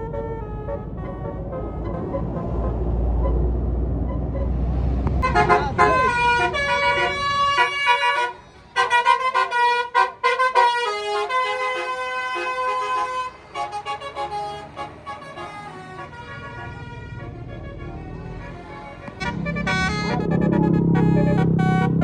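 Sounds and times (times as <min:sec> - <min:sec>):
bus horn playing melody: 0:00.0 - 0:03.6, 0:05.2 - 0:22.0.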